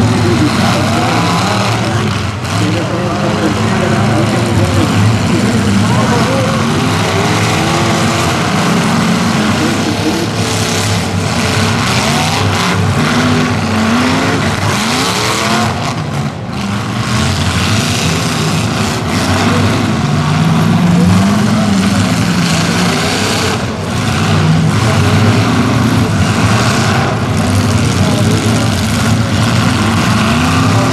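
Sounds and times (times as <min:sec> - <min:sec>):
car engines revving loudly: 0:00.0 - 0:30.9.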